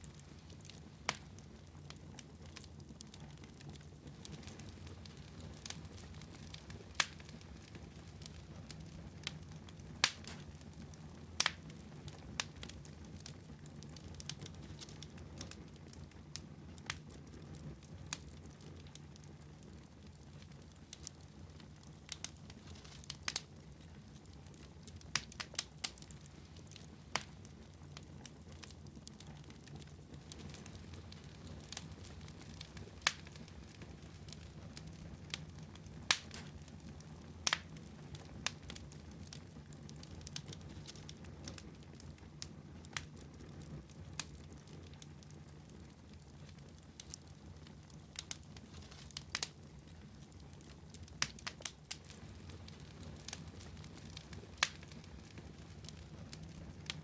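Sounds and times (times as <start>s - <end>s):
fire crackling with pops: 0.0s - 57.0s.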